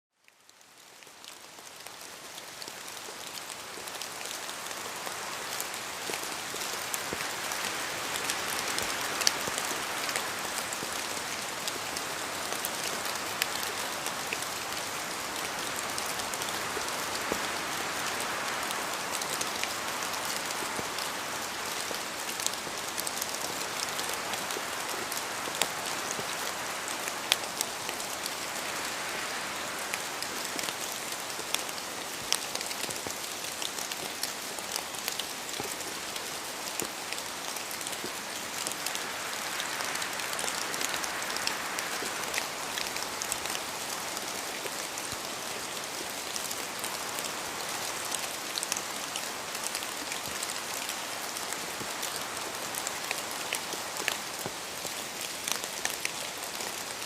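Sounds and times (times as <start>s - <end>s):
rain falling on a surface: 0.1s - 57.0s.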